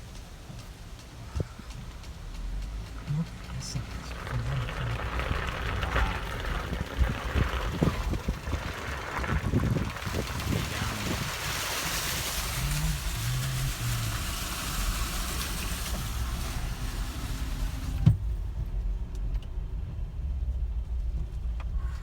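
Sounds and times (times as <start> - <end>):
low car rumble: 0.0 - 22.0
road and wind hiss: 0.0 - 22.0.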